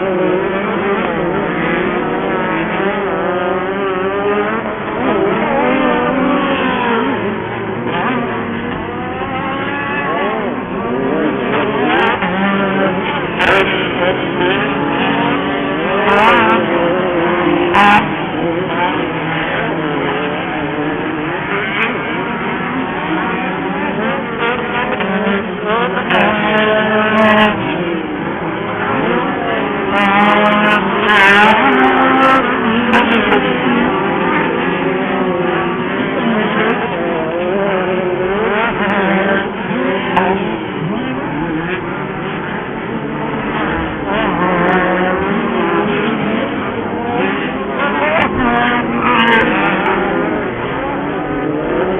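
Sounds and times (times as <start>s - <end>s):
buggy engines revving: 0.0s - 51.9s.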